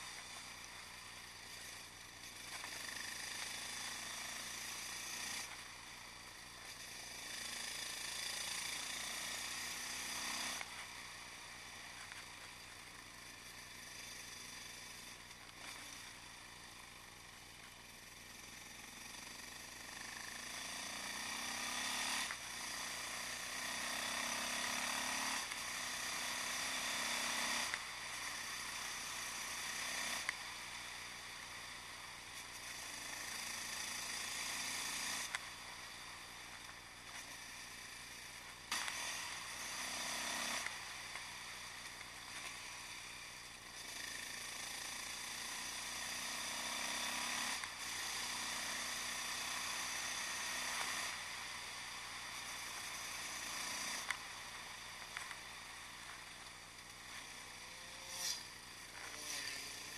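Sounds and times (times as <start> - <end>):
motorcycle engine revving: 0.0 - 17.1, 17.8 - 59.9.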